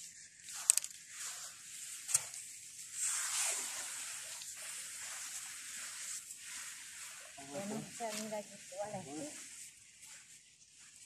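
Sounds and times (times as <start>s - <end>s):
steady hiss: 0.0s - 11.0s
wet sand squelching: 0.0s - 11.0s.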